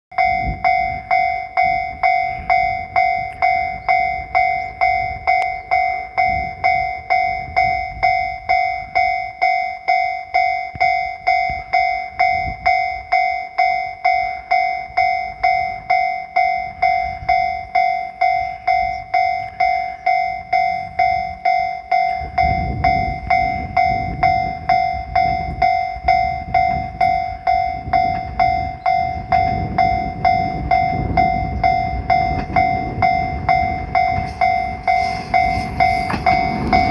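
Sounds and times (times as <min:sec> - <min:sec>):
level-crossing alarm ringing: 0:00.1 - 0:36.9
electric train rumble: 0:00.2 - 0:36.9.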